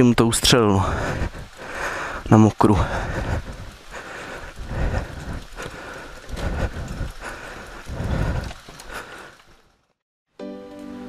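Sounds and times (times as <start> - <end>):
rain and wind on microphone: 0.0 - 10.0.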